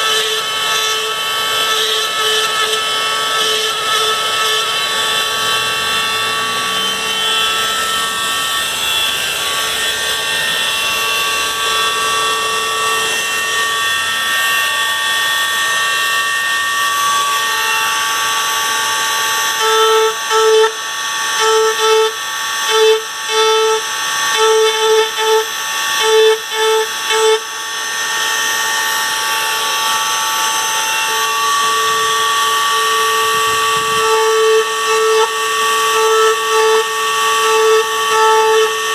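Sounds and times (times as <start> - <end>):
electric engraving tool whining: 0.0 - 38.9.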